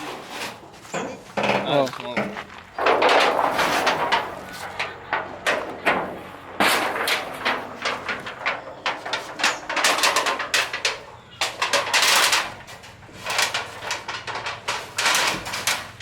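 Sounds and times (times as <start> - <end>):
metal sheets clattering: 0.0 - 16.0
metal sheets scraping and rattling: 0.0 - 16.0.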